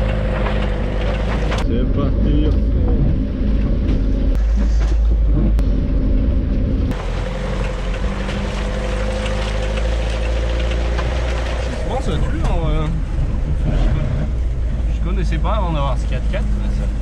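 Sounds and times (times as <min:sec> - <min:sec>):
high engine whine: 0:00.0 - 0:17.0
off-road car engine rumbling: 0:00.0 - 0:17.0.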